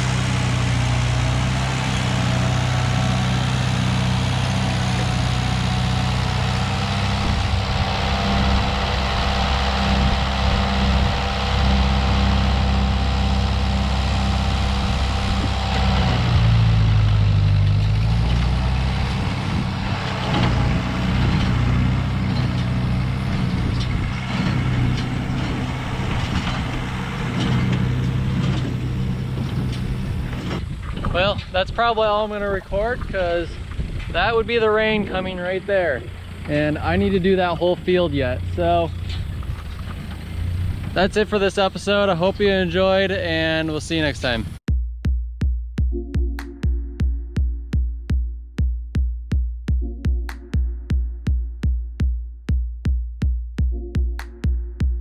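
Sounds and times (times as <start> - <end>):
tractor engine running: 0.0 - 44.6.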